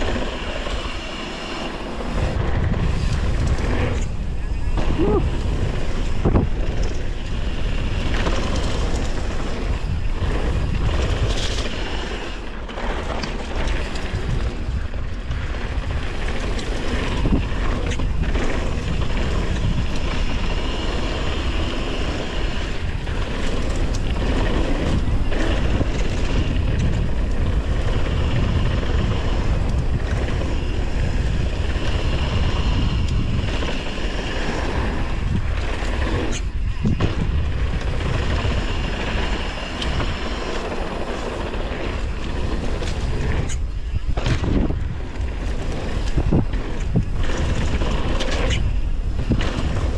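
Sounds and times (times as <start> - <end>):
bike rattling and knocking: 0.0 - 49.9
tyres rolling over dirt: 0.0 - 49.9
wind buffeting microphone: 0.0 - 49.9.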